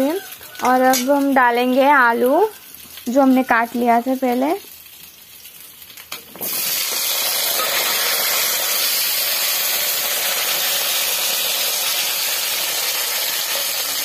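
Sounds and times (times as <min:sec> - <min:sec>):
potatoes sizzling in oil: 0:00.0 - 0:14.0.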